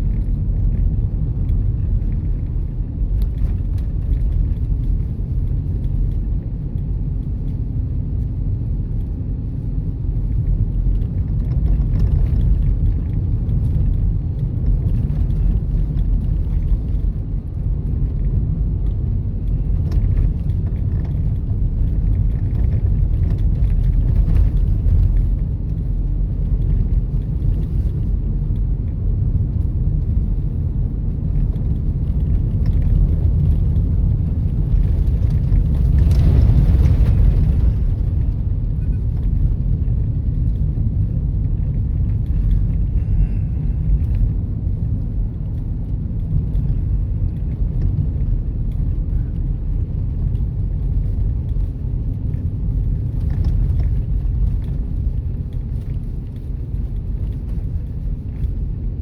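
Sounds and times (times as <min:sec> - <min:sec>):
car road and tyre rumble: 0:00.0 - 0:59.0.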